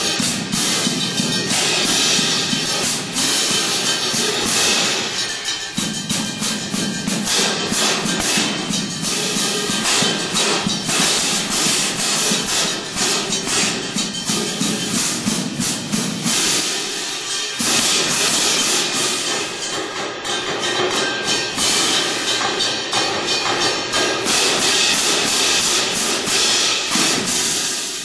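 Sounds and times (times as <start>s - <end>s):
hand cymbals crashing: 0.0s - 28.0s.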